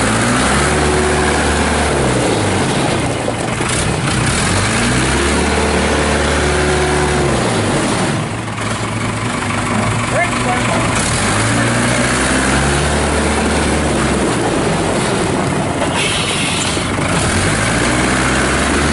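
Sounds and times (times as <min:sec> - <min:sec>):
diesel engine revving: 0:00.0 - 0:18.9.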